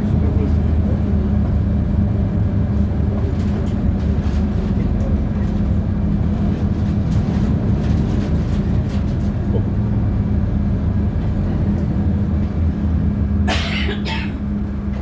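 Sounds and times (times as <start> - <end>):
bus engine hum: 0.0 - 15.0.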